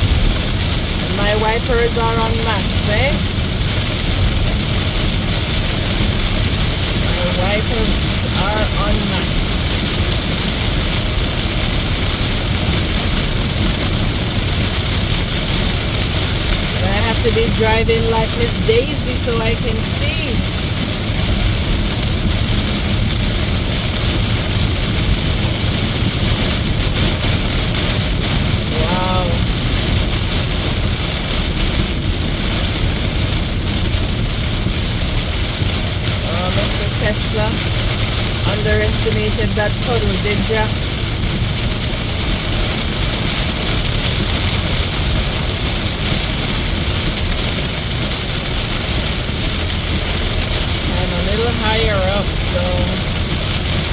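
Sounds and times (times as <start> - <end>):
heavy rain beating on a car: 0.0 - 53.9
tyres on a flooded road: 0.0 - 53.9.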